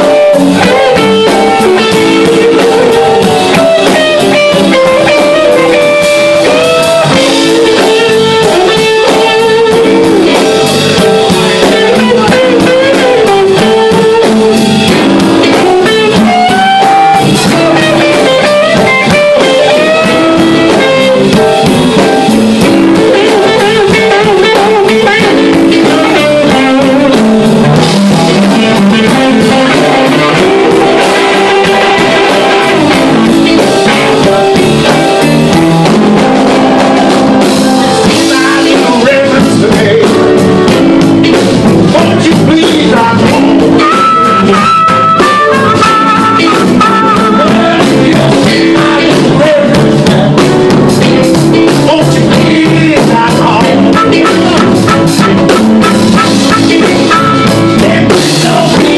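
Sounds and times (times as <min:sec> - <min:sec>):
man singing: 0:00.0 - 0:14.6, 0:15.4 - 0:21.6, 0:22.9 - 0:35.3, 0:38.0 - 0:58.9
blues band playing: 0:00.0 - 0:58.9.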